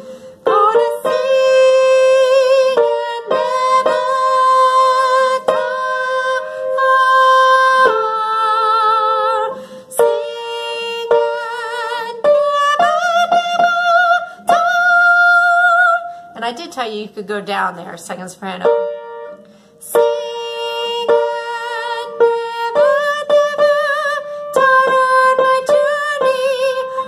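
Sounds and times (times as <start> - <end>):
woman singing soprano: 0.0 - 16.4, 19.8 - 27.0.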